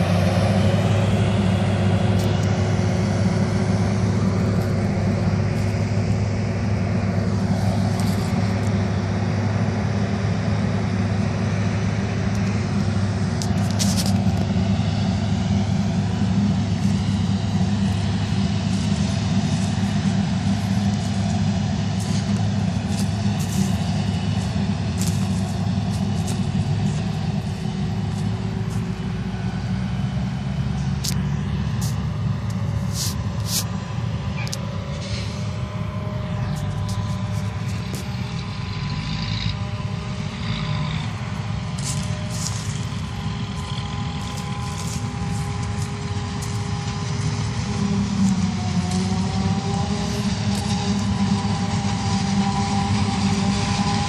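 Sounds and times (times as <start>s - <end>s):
faint machine whine: 0.0s - 54.0s
low engine drone: 0.0s - 54.0s.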